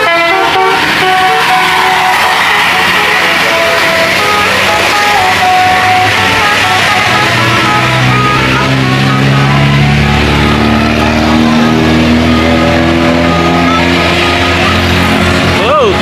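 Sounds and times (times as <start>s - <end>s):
bus engine passing: 0.0s - 16.0s.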